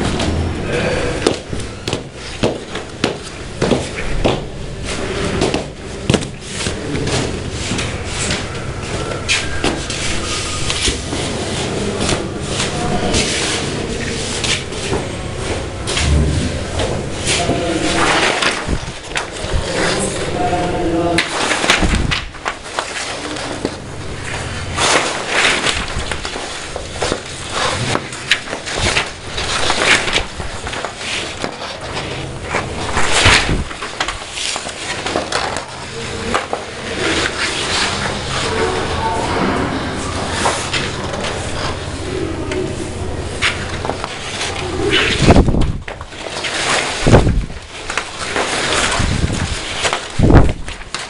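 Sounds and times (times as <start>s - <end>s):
paper rustling: 0.0s - 51.0s.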